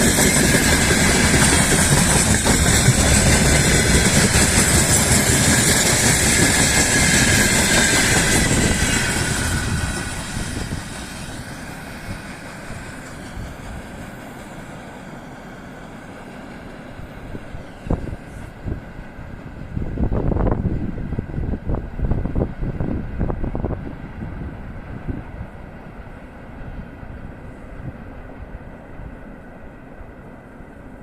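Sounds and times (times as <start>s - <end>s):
freight train running past: 0.0s - 31.0s.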